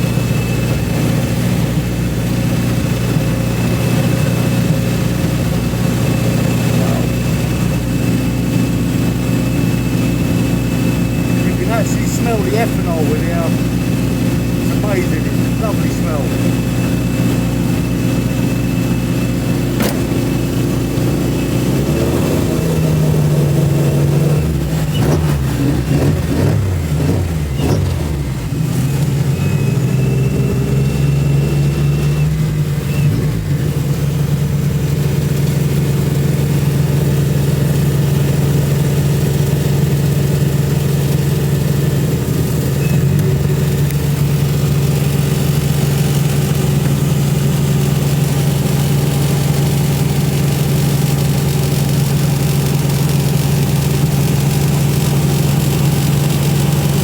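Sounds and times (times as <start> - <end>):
van engines revving: 0.0 - 57.0.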